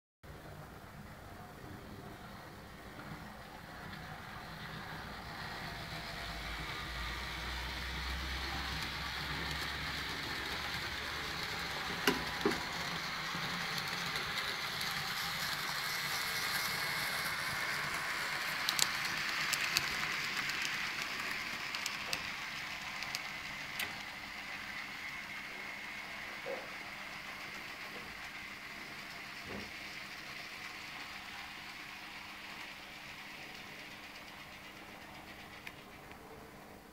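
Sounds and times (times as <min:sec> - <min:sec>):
model train motor whirring: 0:02.9 - 0:36.4.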